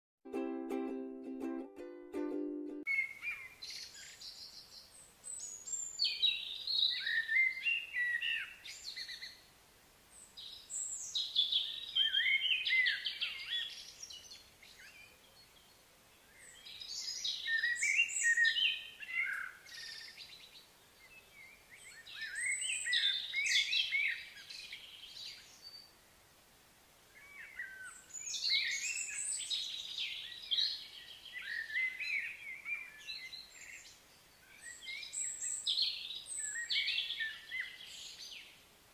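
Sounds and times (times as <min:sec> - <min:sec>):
songbird singing: 0:00.3 - 0:09.5, 0:10.1 - 0:26.2, 0:27.0 - 0:38.8.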